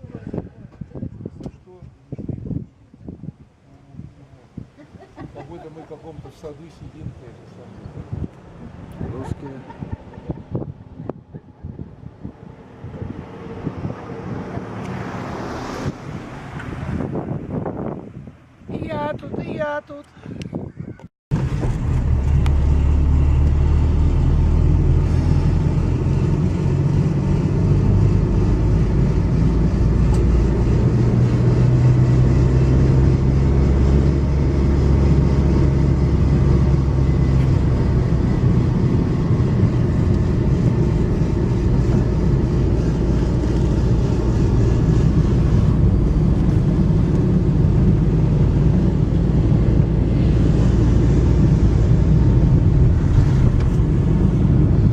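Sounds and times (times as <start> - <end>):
road noise: 0.0 - 54.9
car engine droning: 4.0 - 18.4, 21.3 - 54.9.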